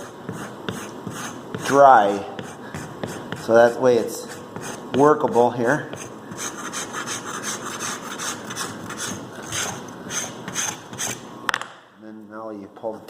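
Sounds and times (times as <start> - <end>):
hand scraper rasping: 0.0 - 11.2.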